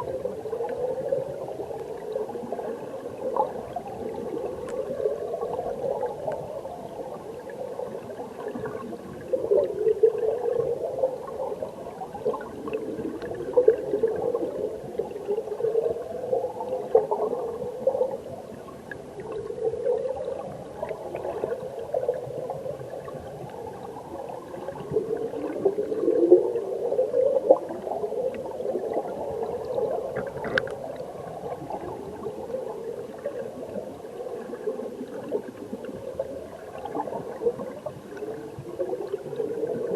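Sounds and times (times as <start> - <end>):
muffled underwater stream gurgling: 0.0 - 39.9.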